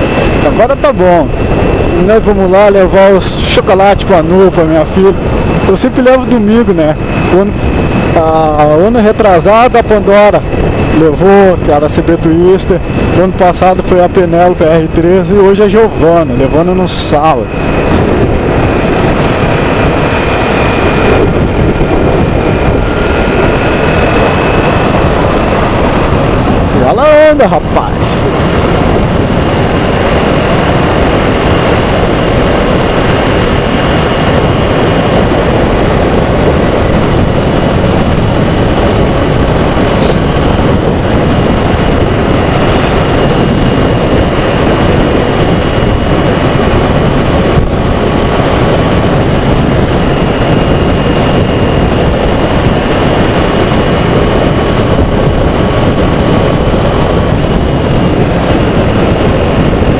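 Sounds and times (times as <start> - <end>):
road and air noise: 0.0 - 59.9.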